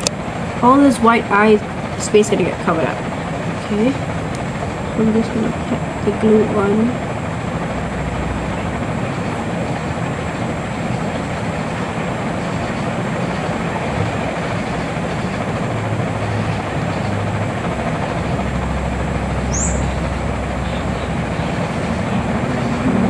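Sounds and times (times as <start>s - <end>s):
steady loud noise with low hum: 0.0s - 23.0s
high rising chirp: 3.0s - 23.0s.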